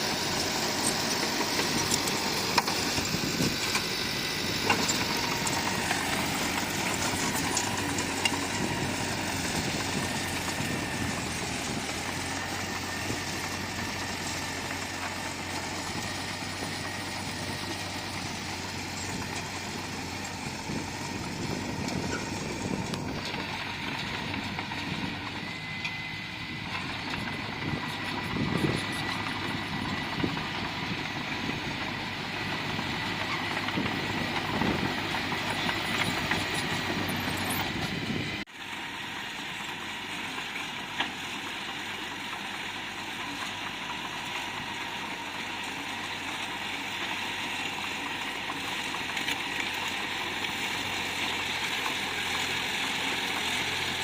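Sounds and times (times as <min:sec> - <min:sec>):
bulldozer engine running: 0:00.0 - 0:54.0.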